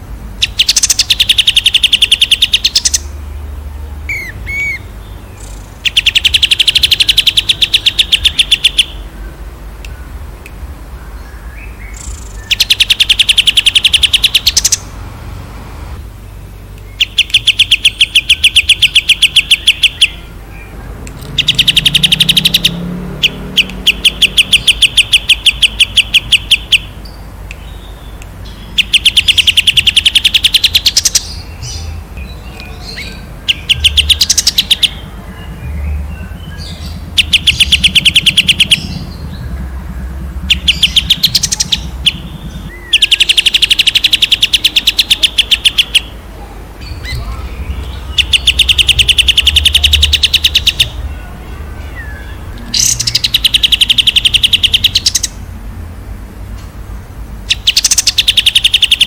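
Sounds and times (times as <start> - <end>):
songbird trilling: 0.4 - 3.5, 4.1 - 10.2, 10.9 - 15.0, 16.8 - 46.2, 46.8 - 55.4, 57.4 - 59.0.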